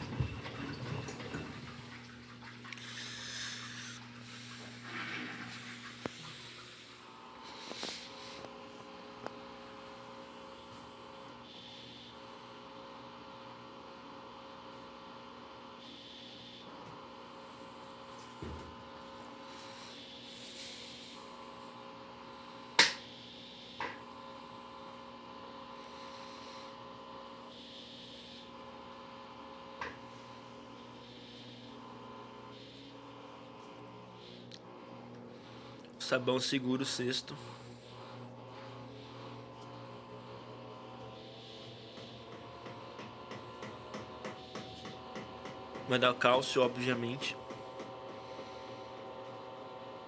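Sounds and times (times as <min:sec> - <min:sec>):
washing machine motor hum: 0:00.0 - 0:50.0.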